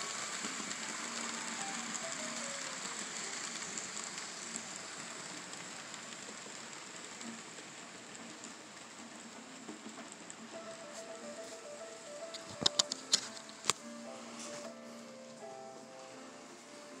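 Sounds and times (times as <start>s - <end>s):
model train wheels and motor: 0.0s - 17.0s.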